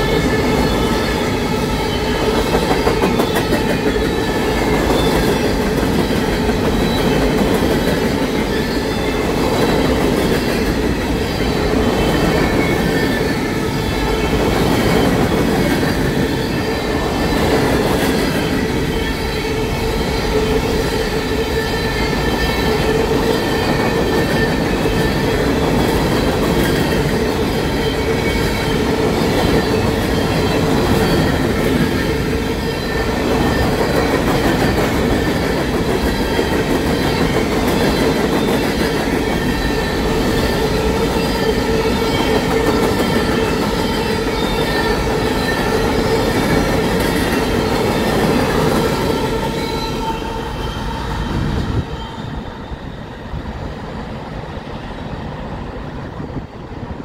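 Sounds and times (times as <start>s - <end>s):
train cars rolling on rails: 0.0s - 57.0s.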